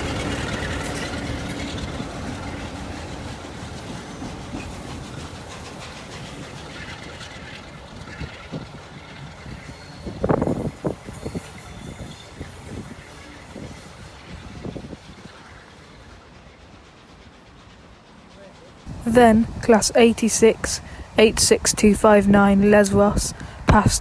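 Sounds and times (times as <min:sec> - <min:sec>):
rail clatter: 0:00.0 - 0:24.0
steam locomotive rumble: 0:00.0 - 0:24.0.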